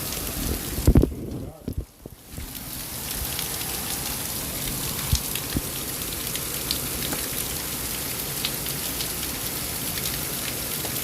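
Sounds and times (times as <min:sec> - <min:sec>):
hail pattering: 0:00.0 - 0:11.0.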